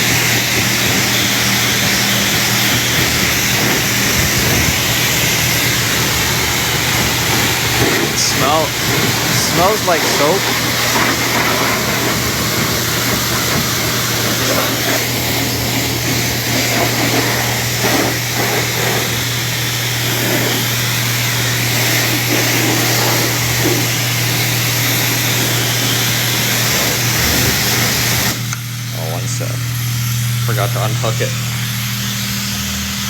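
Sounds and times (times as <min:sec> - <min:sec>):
pressure washer spraying water: 0:00.0 - 0:33.0.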